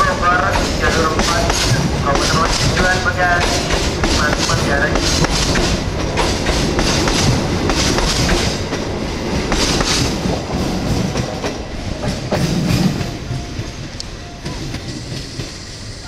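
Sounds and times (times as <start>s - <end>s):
train wheels clattering over joints: 0.0s - 15.6s.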